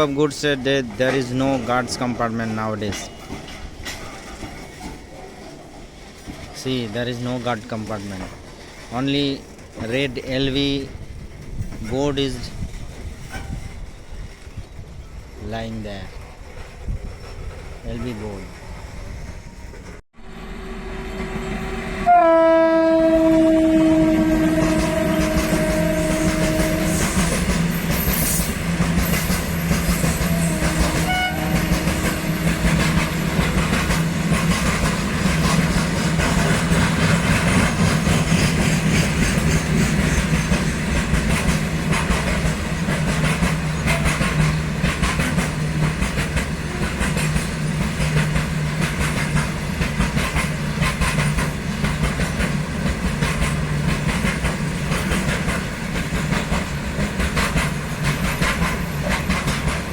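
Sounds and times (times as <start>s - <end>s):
freight train rumbling past: 0.0s - 59.9s
wheels clattering over rail joints: 0.3s - 14.8s, 23.3s - 59.9s.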